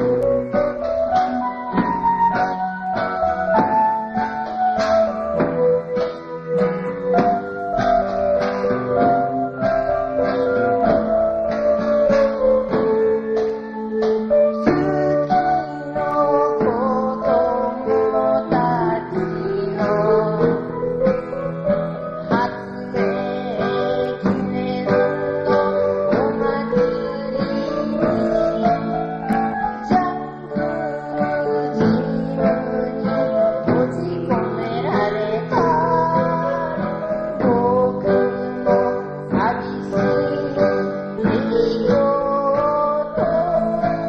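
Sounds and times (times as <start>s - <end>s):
acoustic guitar strumming: 0.0s - 44.0s
sustained melody line: 0.0s - 44.0s.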